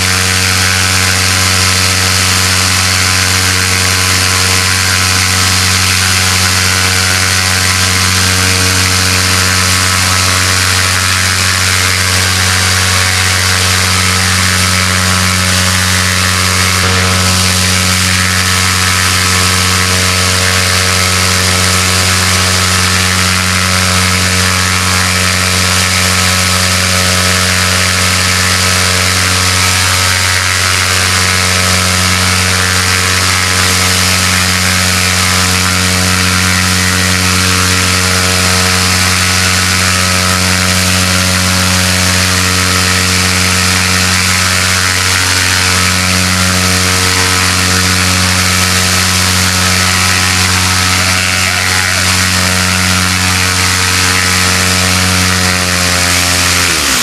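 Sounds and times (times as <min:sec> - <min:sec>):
engine drone: 0:00.0 - 0:57.0
water spraying from hoses: 0:00.0 - 0:57.0.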